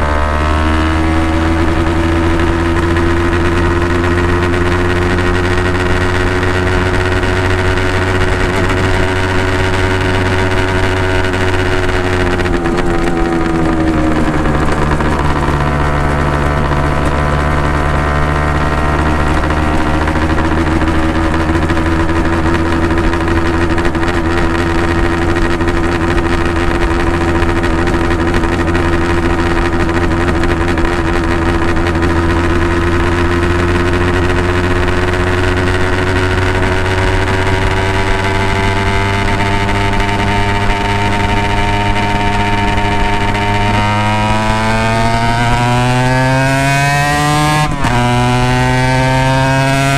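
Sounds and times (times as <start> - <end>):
two-stroke motorcycle exhaust note: 0.0 - 49.9.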